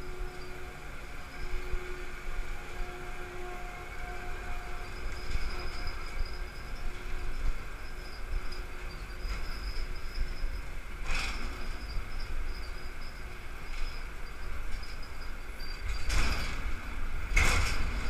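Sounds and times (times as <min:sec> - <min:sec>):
crane machinery rumble: 0:00.0 - 0:18.0.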